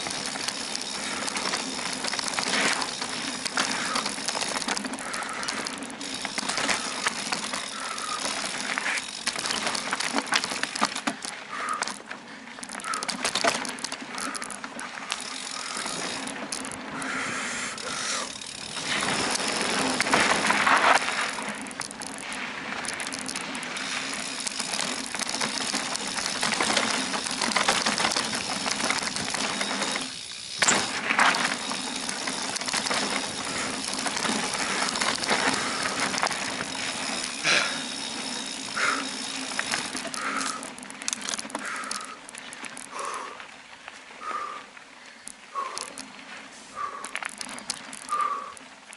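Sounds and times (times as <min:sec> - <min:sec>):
bicycle tyres on dirt: 0:00.0 - 0:48.9
bike rattling and clicking: 0:00.0 - 0:48.9.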